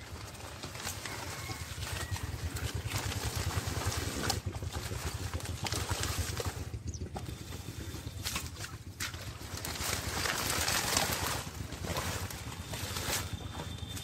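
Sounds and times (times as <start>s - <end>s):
leaves rustling: 0.0s - 6.6s, 7.8s - 14.0s
muddy water sloshing: 0.0s - 14.0s.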